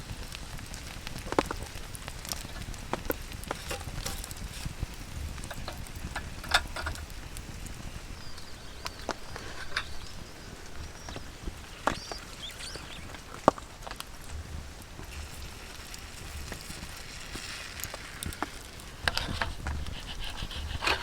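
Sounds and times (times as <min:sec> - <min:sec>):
rain pattering: 0:00.0 - 0:21.0
sharp pops of fire: 0:00.0 - 0:21.0
wood fire crackling: 0:00.0 - 0:21.0.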